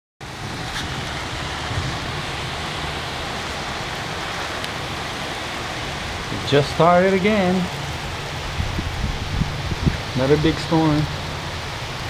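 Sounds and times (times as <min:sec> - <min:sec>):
heavy rain pouring: 0:00.2 - 0:12.0.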